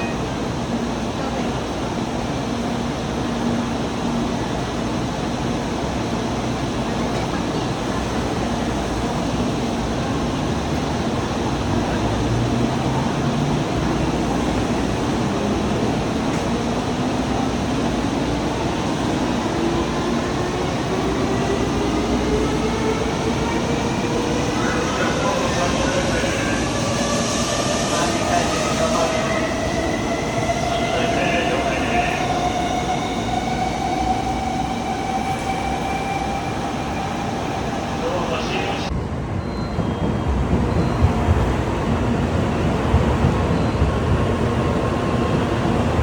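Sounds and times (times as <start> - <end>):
train rumble and rush: 0.0 - 46.0.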